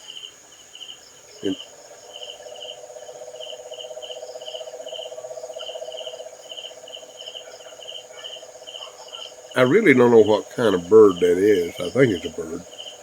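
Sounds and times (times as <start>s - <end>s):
crickets chirping: 0.0s - 13.0s
high steady insect tone: 0.0s - 13.0s.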